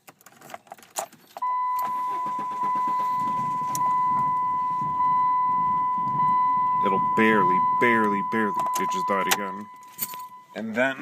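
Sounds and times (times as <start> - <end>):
keys rattling in ignition: 0.0 - 10.4
high warning tone: 1.4 - 11.0.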